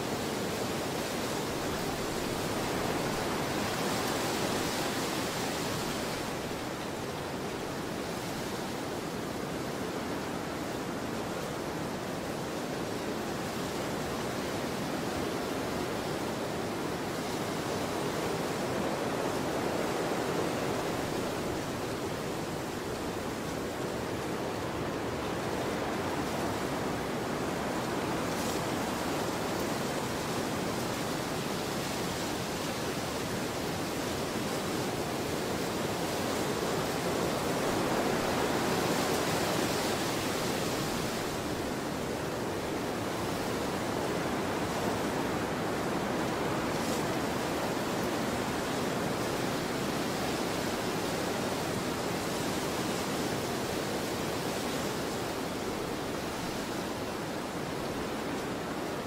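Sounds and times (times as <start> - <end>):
rushing wind: 0.0 - 59.0.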